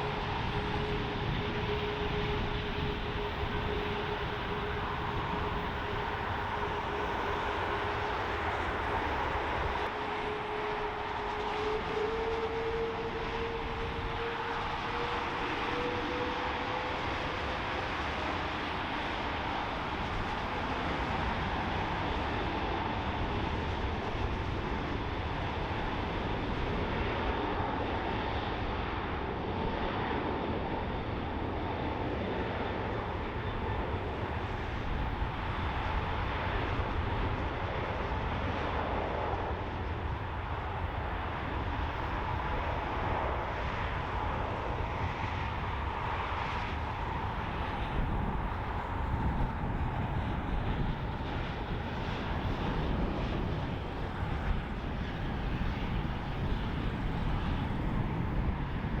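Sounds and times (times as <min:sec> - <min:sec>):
jet engines whining: 0:00.0 - 0:59.0
wind on microphone: 0:00.0 - 0:59.0.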